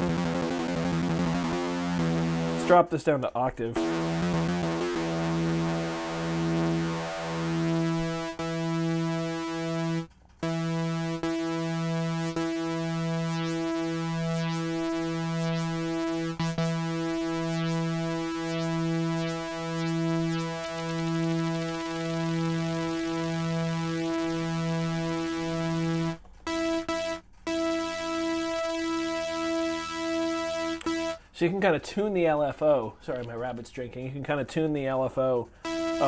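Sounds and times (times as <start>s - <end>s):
pulsing low synthesizer note: 0.0s - 2.7s, 3.8s - 31.2s, 35.6s - 36.0s.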